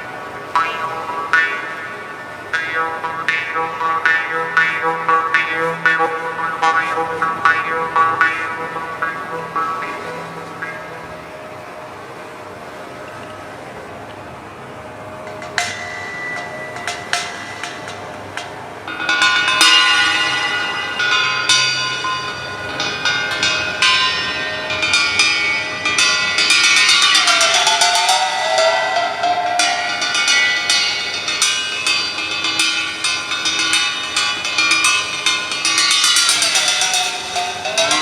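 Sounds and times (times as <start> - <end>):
bell-like metal tones: 0.0 - 12.4, 15.2 - 38.0.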